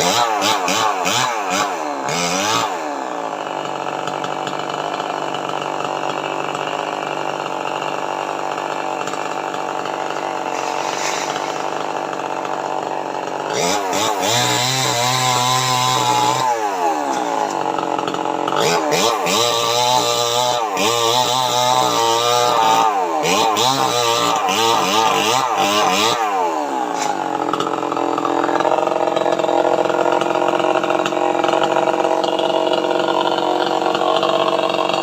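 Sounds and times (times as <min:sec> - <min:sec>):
chainsaw engine revving: 0:00.0 - 0:35.0.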